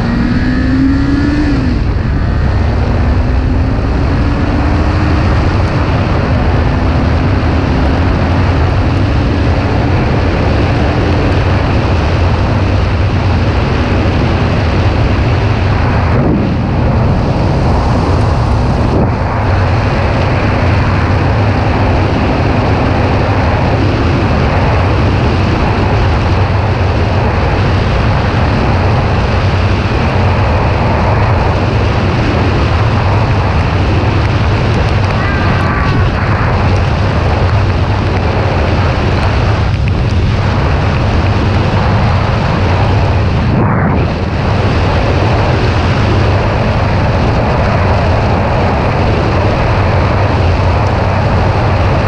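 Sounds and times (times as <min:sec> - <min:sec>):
motorcycle engine accelerating: 0:00.0 - 0:50.2
wind rushing on microphone: 0:00.0 - 0:52.0.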